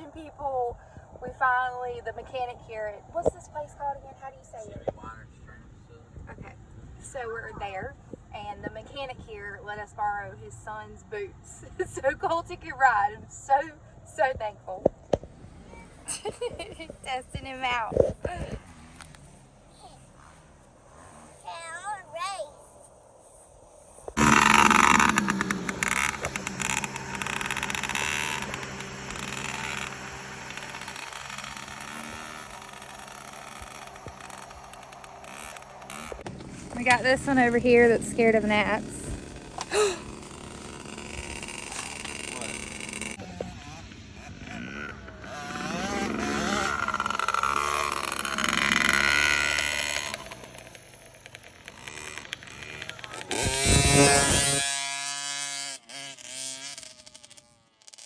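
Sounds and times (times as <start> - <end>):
dirt bike engine: 0.0 - 58.0.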